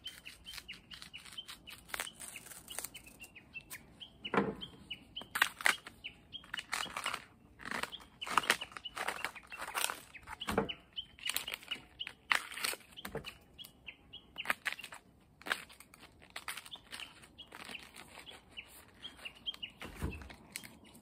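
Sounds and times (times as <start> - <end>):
husks ripping off bamboo shoots: 0.0 - 3.9, 5.2 - 13.4, 14.4 - 21.0
small birds chirping: 0.0 - 21.0.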